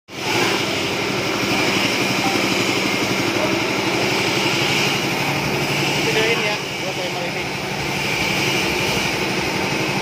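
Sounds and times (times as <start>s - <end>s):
coffee huller running: 0.1s - 10.0s
small petrol engine: 0.1s - 10.0s.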